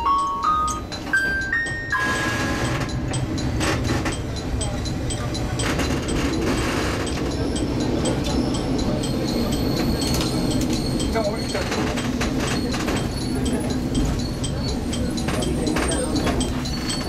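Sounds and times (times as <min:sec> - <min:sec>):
diesel railcar engine rumble: 0:00.0 - 0:17.0
railcar rattles: 0:00.0 - 0:17.0
wheels on rails: 0:00.0 - 0:17.0.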